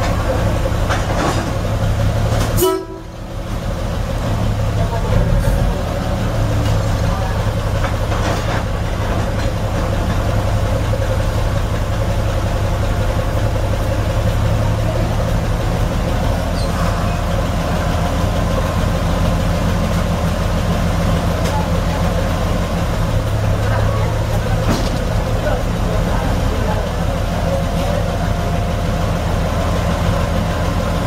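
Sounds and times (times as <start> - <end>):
diesel locomotive engine idling: 0.0 - 31.0.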